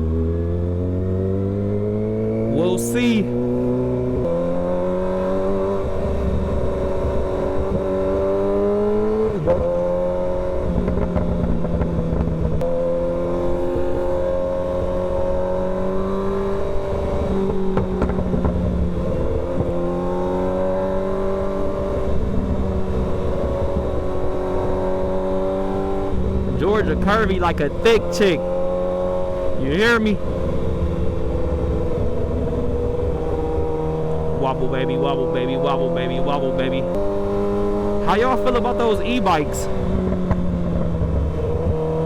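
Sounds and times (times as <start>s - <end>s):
motorcycle engine shifting gears: 0.0s - 2.6s, 3.3s - 42.0s.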